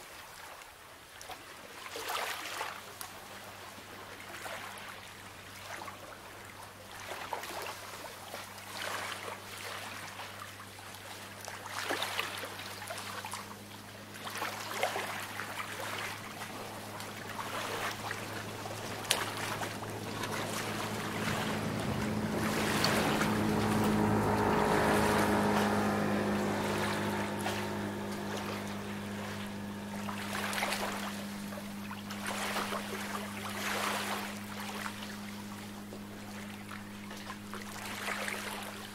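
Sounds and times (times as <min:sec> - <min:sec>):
small waves washing in: 0:00.0 - 0:38.9
motorboat engine humming: 0:02.8 - 0:38.9.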